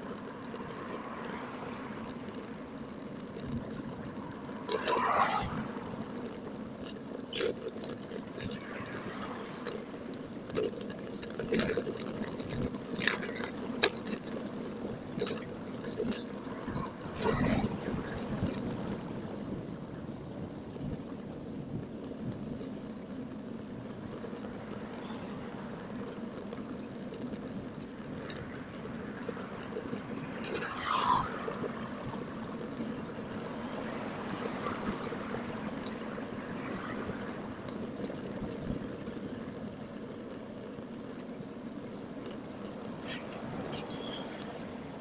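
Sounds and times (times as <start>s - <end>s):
wind and road noise on microphone: 0.0s - 45.0s.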